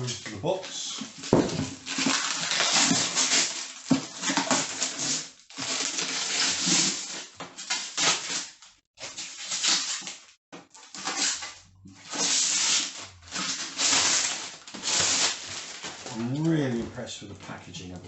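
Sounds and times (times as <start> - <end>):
plastic packaging crinkling: 0.1 - 18.0.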